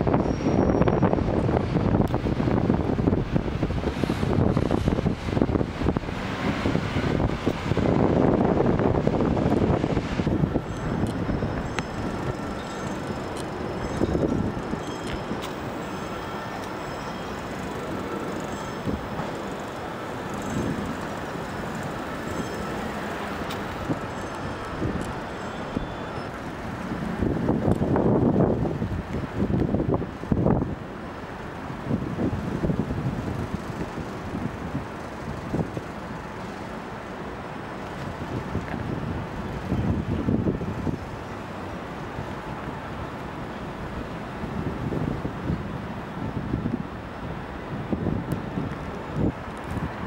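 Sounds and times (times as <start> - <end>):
wind buffeting microphone: 0.0 - 16.8, 17.4 - 31.0, 31.6 - 36.4, 37.6 - 50.0
distant city traffic hum: 0.0 - 50.0.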